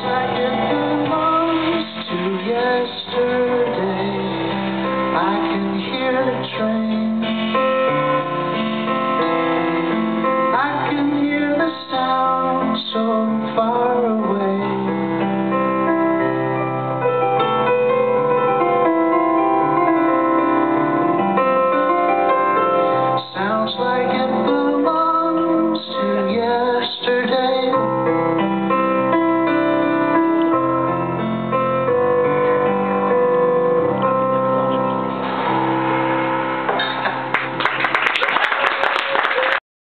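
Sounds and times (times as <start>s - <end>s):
keyboard: 0.0s - 37.6s.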